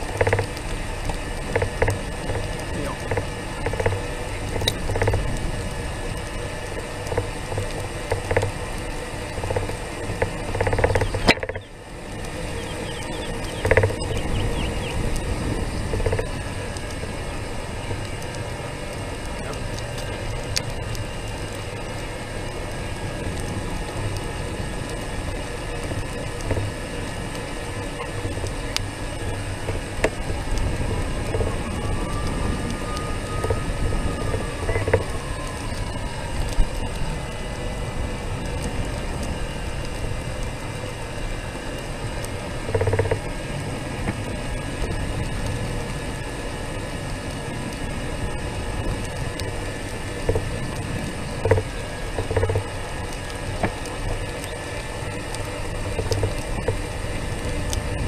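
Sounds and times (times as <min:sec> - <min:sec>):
vehicle rolling on concrete: 0:00.0 - 0:58.0.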